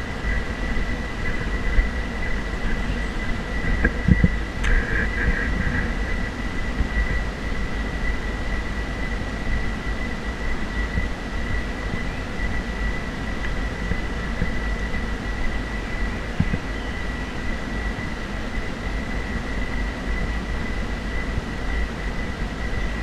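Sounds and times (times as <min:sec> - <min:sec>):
high-pitched gimbal motor whine: 0:00.0 - 0:23.0
wind buffeting microphone: 0:00.0 - 0:23.0.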